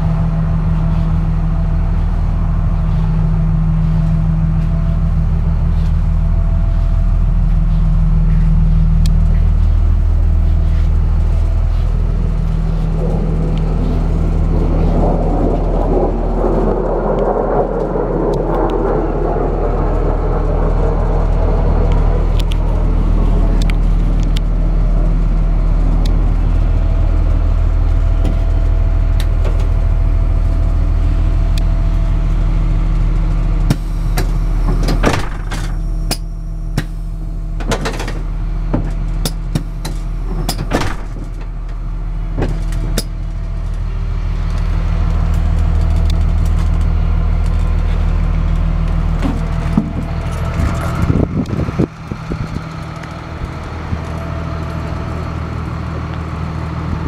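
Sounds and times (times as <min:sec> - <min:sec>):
diesel bus engine idling: 0:00.0 - 0:57.0.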